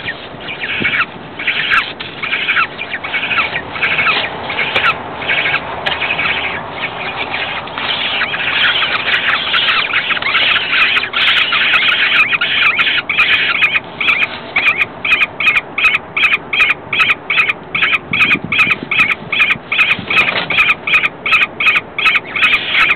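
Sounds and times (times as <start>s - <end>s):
falcon chicks calling shrilly: 0.0s - 22.9s.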